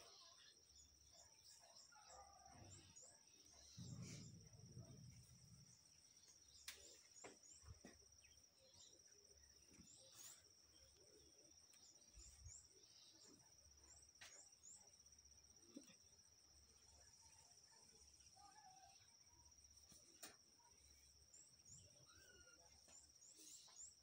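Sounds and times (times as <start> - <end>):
insect trill: 0.0 - 24.0.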